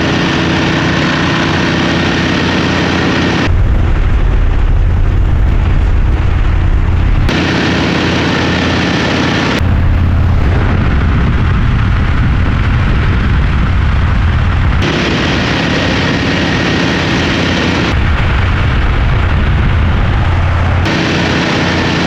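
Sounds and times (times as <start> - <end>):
heavy wind rush: 0.0 - 22.0
motorcycle engine drone: 0.0 - 22.0.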